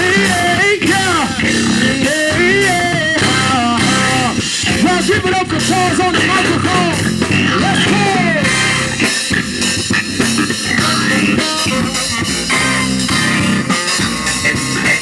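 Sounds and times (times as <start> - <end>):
live band playing funk: 0.0 - 15.0
sliding lead melody: 0.0 - 15.0.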